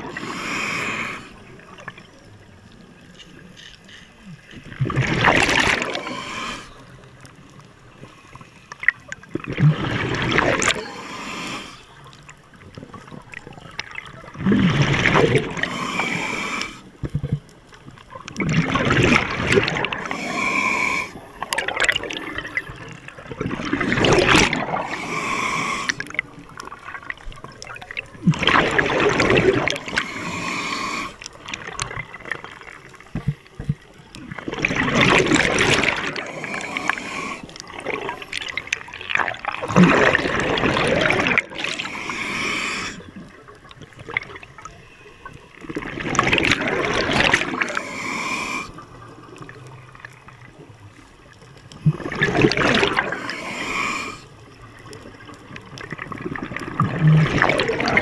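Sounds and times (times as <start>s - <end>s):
gurgling exhaled bubbles: 0.0s - 2.8s, 4.2s - 8.1s, 8.8s - 58.0s.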